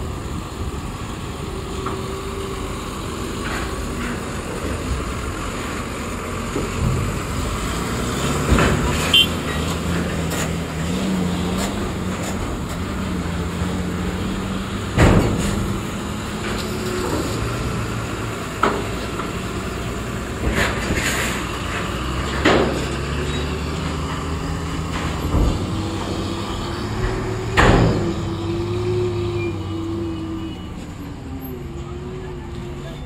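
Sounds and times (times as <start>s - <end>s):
truck diesel engines running: 0.0s - 33.0s.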